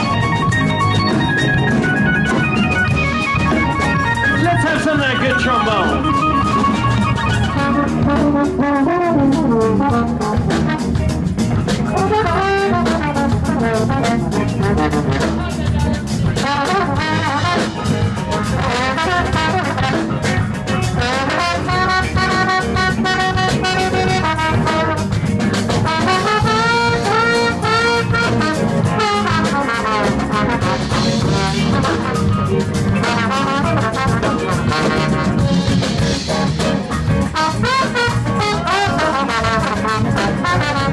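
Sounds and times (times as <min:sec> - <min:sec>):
horn band playing: 0:00.0 - 0:40.9
trombone: 0:00.0 - 0:40.9.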